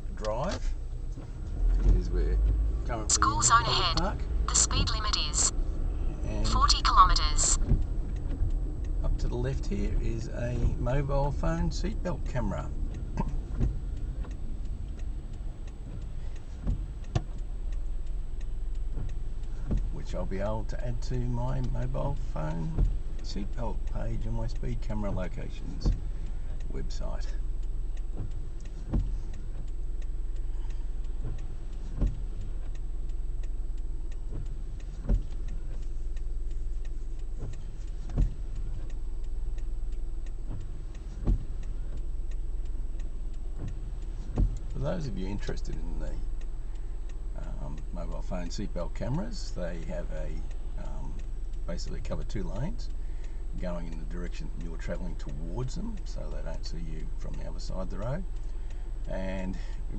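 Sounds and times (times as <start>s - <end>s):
car road and engine rumble: 0.0s - 59.9s
light regular ticking: 0.0s - 59.9s.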